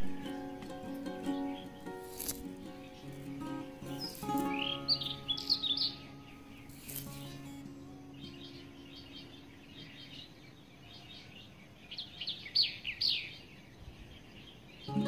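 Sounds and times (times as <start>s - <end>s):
birds chirping: 0.0s - 15.0s
downward-sweeping bird chirps: 0.2s - 13.6s.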